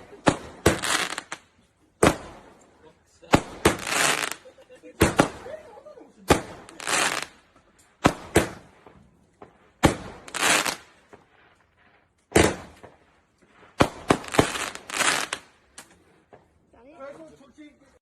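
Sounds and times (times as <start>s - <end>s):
firework bangs: 0.0s - 16.5s.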